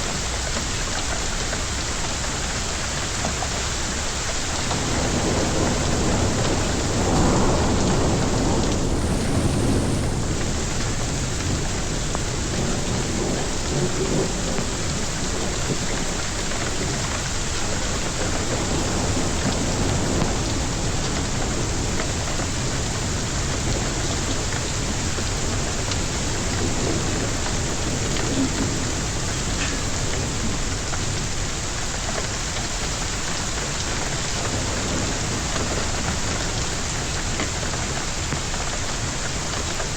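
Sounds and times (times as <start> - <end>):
heavy rain and hail pelting: 0.0 - 39.9
thunder rumbling: 3.4 - 39.9.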